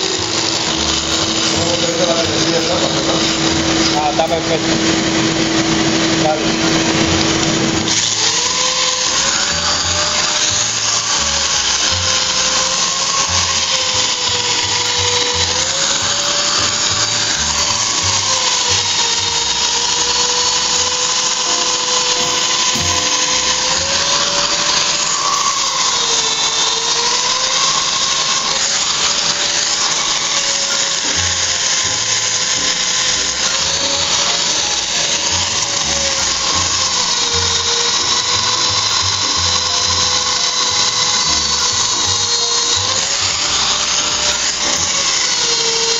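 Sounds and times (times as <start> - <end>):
electric polisher motor whine: 0.0 - 45.9
polishing pad hissing on stone: 0.0 - 45.9.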